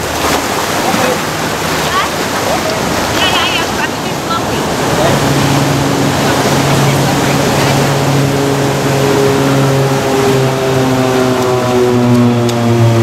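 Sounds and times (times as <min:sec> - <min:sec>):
ocean surf washing over rocks: 0:00.0 - 0:11.6
engine drone: 0:00.0 - 0:13.0.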